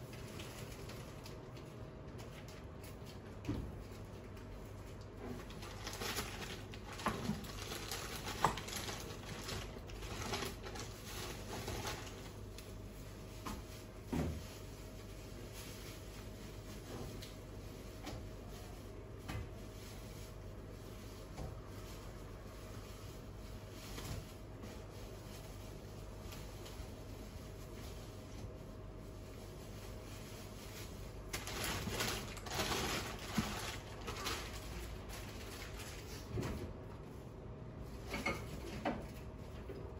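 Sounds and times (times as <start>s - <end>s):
kitchen background hum: 0.0s - 39.9s.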